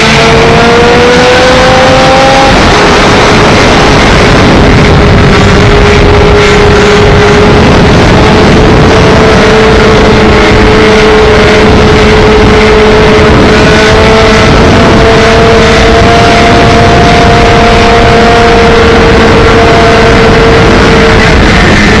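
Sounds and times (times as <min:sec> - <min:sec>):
motorcycle engines running: 0:00.0 - 0:22.0.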